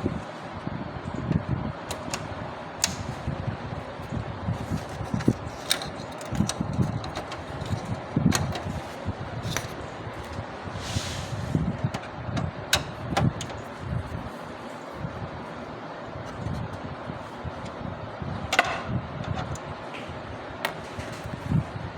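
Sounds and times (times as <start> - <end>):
printer mechanical hum: 0.0 - 21.9.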